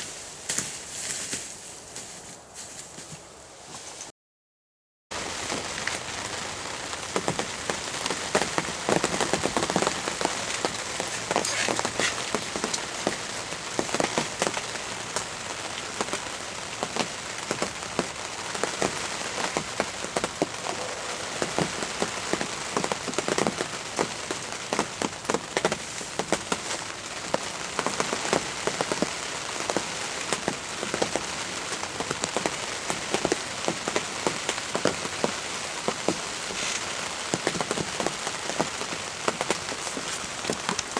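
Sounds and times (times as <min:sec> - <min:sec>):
steady rain: 0:05.1 - 0:40.9
raindrops ticking on surface: 0:05.2 - 0:40.9.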